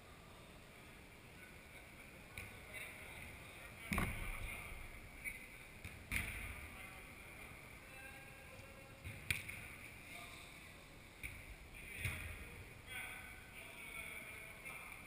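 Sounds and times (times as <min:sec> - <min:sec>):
football thuds echoing in hall: 0:02.1 - 0:15.0.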